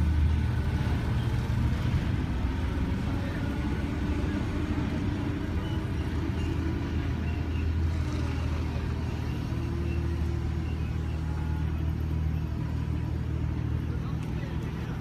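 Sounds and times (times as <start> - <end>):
forklift engine humming: 0.0 - 15.0.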